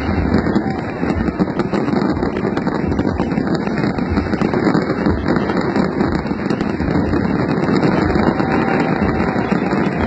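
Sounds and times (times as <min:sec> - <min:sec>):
fireworks crackles and pops: 0:00.0 - 0:10.0
fireworks rumble: 0:00.0 - 0:10.0.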